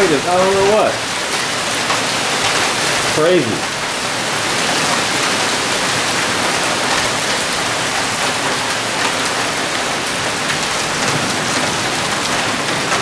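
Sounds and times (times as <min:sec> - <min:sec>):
hailstones ticking: 0:00.0 - 0:13.0
rain on concrete: 0:00.0 - 0:13.0.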